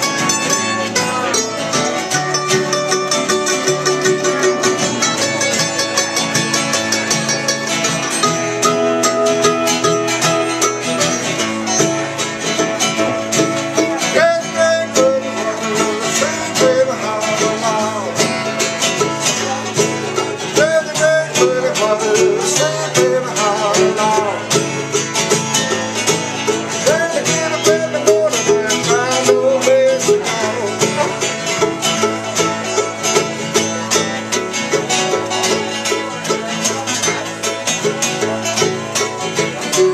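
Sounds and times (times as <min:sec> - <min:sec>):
bluegrass banjo and guitar: 0:00.0 - 0:39.9
sliding melody line: 0:00.0 - 0:39.9.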